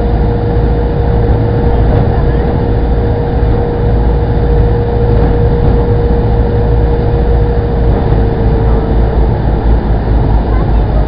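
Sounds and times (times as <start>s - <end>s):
boat engine rumbling: 0.0s - 11.0s
noisy rush: 0.0s - 11.0s.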